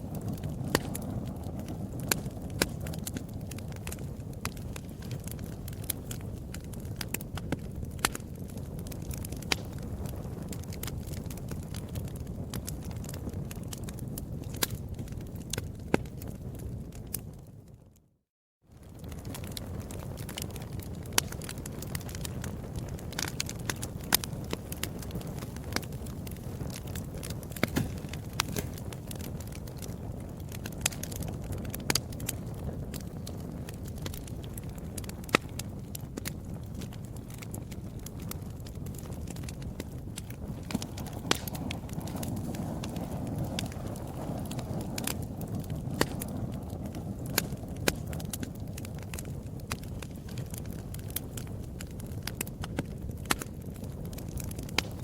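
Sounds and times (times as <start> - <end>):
wood fire crackling: 0.0 - 18.0, 18.7 - 55.0
low rumble of flame: 0.0 - 55.0.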